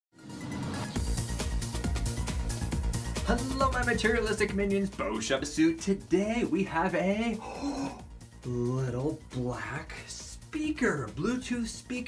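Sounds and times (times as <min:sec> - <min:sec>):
electronic music with fast beat: 0:00.3 - 0:12.0.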